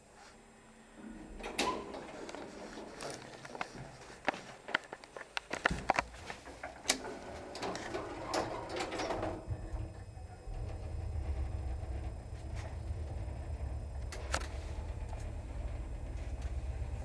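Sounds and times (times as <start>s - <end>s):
lift motor hum: 0.6s - 17.0s.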